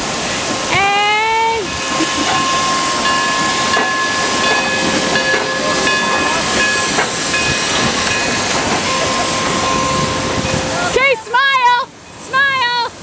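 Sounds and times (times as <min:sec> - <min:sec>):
steam hissing: 0:00.0 - 0:12.2.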